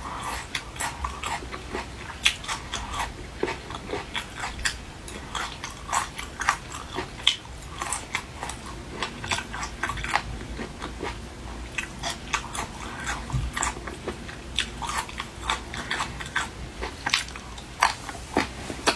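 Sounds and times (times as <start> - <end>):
chewing with crisp crunches: 0.0 - 18.9.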